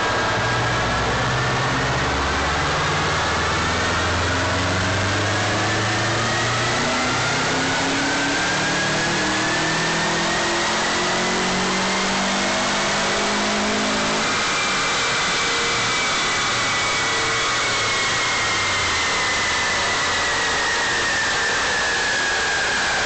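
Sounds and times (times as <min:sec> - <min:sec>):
car engine whining on dynamometer: 0:00.0 - 0:23.0.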